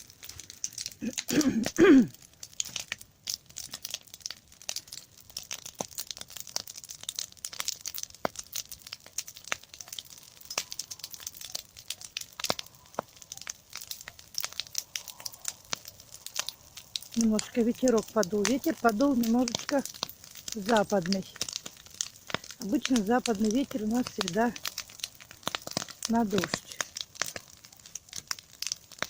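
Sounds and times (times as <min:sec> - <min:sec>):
bonfire crackling and popping: 0:00.0 - 0:29.0.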